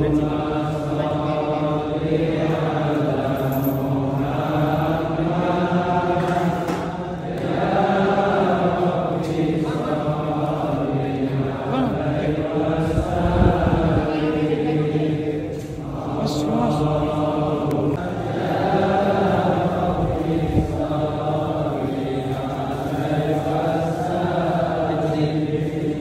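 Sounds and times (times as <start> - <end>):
group chanting in unison: 0.0 - 26.0.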